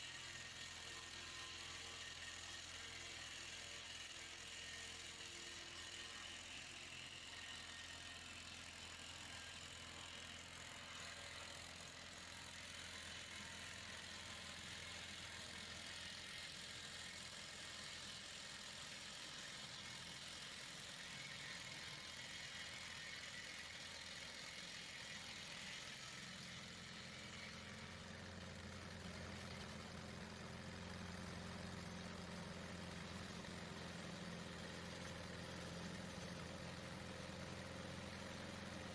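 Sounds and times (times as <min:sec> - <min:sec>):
sawmill engine drone: 0:00.0 - 0:38.9.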